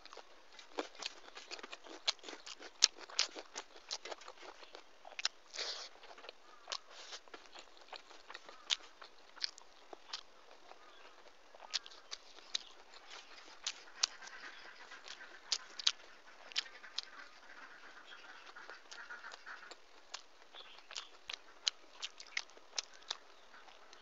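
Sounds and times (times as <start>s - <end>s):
chewing mouth clicks: 0.1s - 17.2s, 18.3s - 24.0s.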